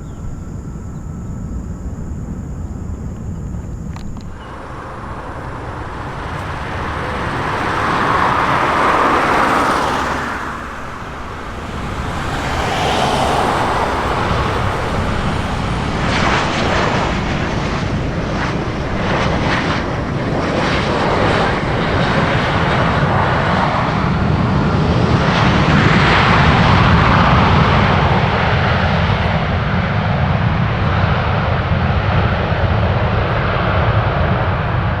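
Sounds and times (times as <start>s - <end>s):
jet airliner engines rumbling: 0.0s - 35.0s.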